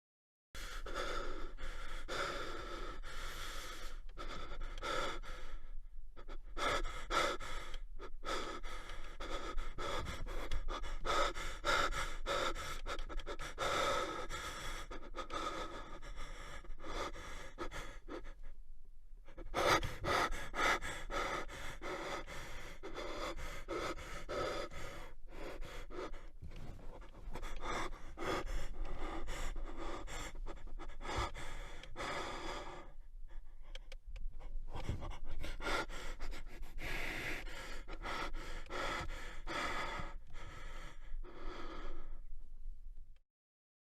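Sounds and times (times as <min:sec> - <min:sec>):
man panting: 0:00.6 - 0:18.6, 0:19.2 - 0:42.4.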